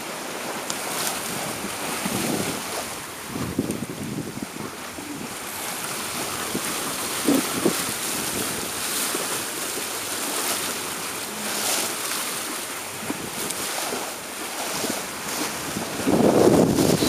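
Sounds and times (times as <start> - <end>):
choppy waves rushing: 0.0 - 17.0
wind buffeting microphone: 1.1 - 9.4, 11.5 - 17.0.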